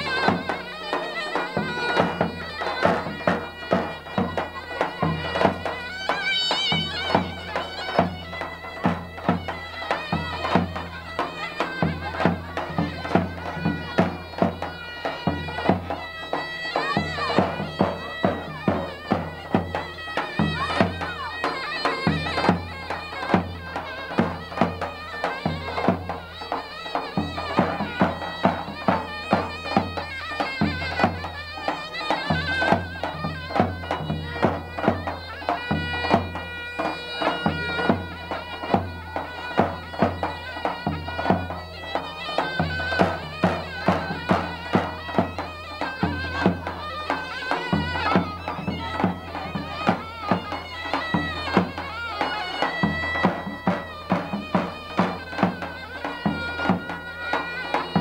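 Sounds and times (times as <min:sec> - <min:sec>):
drum beat: 0:00.0 - 0:58.0
reedy wind instrument melody: 0:00.0 - 0:58.0.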